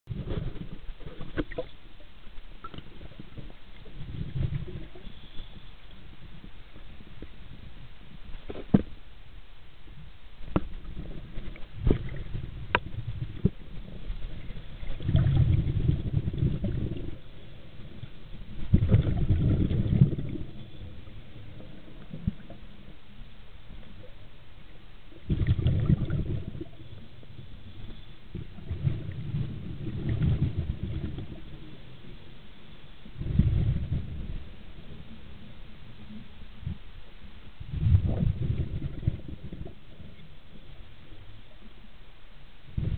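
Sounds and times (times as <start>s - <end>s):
underwater exhaled air bubbling: 0.1s - 8.8s, 10.5s - 24.3s, 25.1s - 36.9s, 37.6s - 41.6s.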